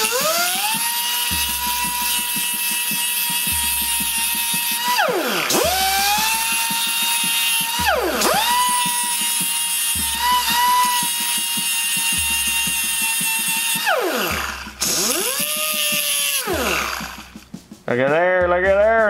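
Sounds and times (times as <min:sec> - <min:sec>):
grinder sharpening steel blade: 0:00.0 - 0:17.2.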